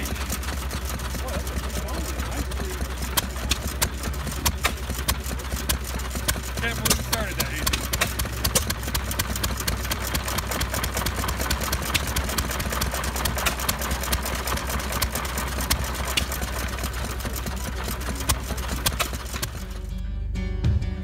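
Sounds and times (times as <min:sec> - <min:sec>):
stationary gas engine running: 0:00.0 - 0:20.0.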